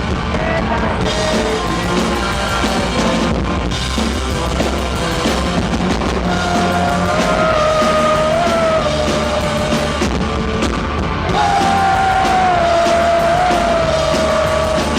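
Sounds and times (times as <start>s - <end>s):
live rock band playing: 0.0s - 14.9s.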